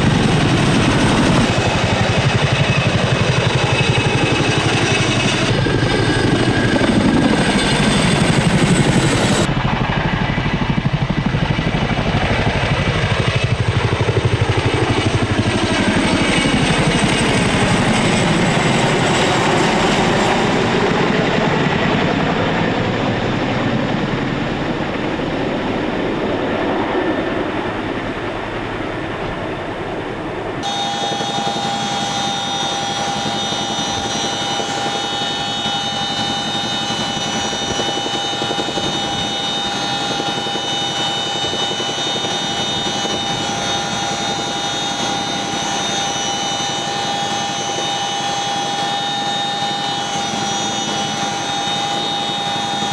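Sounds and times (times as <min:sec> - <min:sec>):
helicopter rotor and engine noise: 0:00.0 - 0:52.9
turbine whine: 0:00.0 - 0:52.9.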